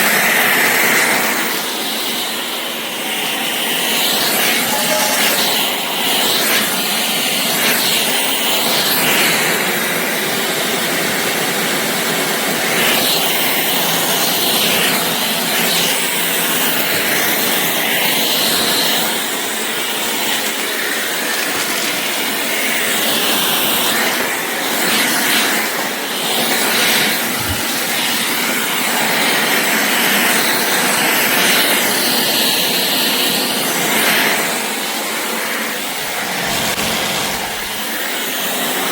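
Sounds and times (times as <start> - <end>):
cordless stick vacuum running: 0.0 - 38.9.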